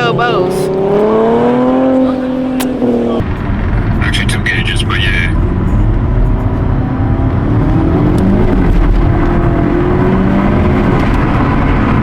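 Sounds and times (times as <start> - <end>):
car engine revving high: 0.0 - 12.0.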